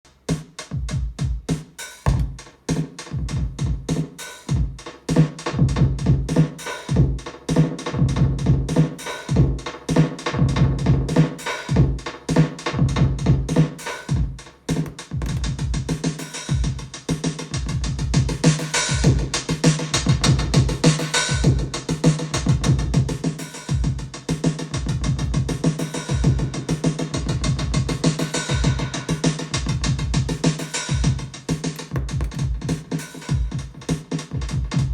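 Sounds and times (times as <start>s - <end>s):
drum machine beat with echoes: 0.1s - 34.9s.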